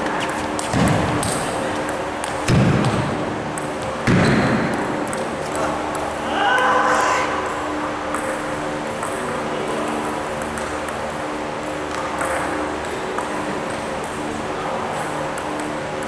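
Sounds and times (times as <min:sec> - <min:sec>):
fans humming: 0:00.0 - 0:16.0.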